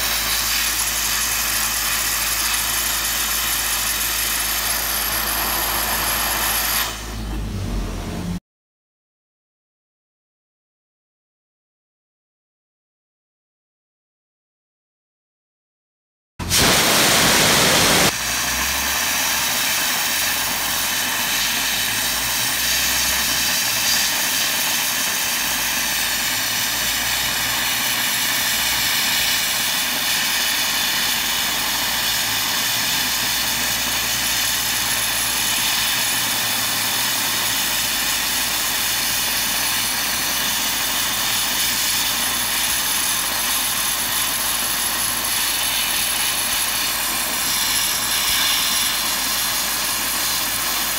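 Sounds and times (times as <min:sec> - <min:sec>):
dry ice blasting hiss: 0:00.0 - 0:07.2, 0:16.4 - 0:50.9.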